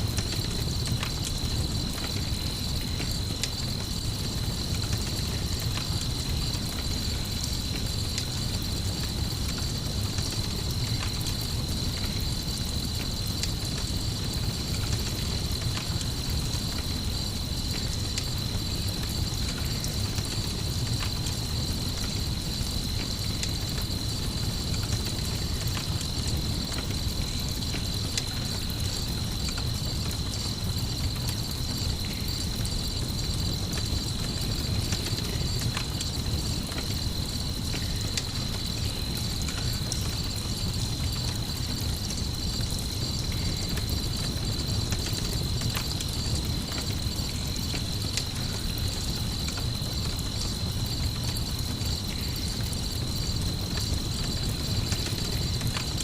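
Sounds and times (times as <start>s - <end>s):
campfire crackling: 0.0s - 56.0s
crickets trilling: 0.0s - 56.0s.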